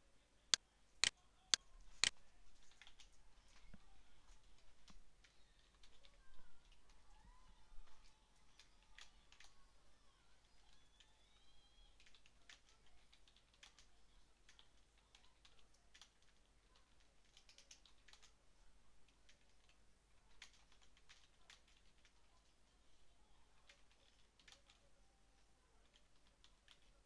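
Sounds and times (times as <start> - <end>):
faint keyboard typing: 1.0 - 27.0.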